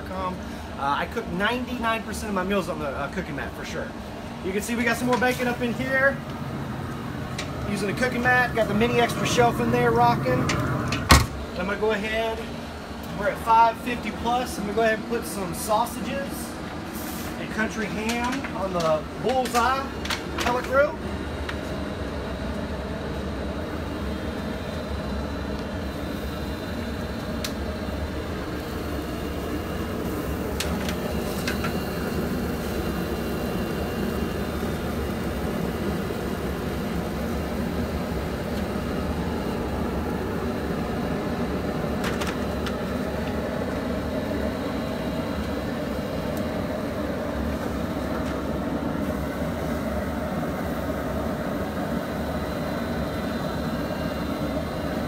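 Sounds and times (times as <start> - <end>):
mechanical rumble with hum: 0.0 - 55.0.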